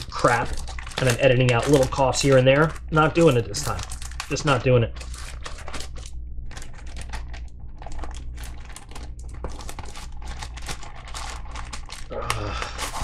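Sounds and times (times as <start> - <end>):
packaging crinkling: 0.0 - 13.0
steady low hum: 0.0 - 13.0.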